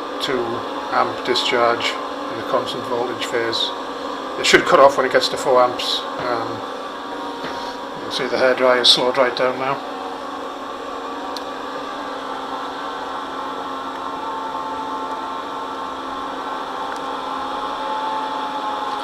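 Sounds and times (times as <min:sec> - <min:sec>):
hair dryer running slowly: 0:00.0 - 0:19.0.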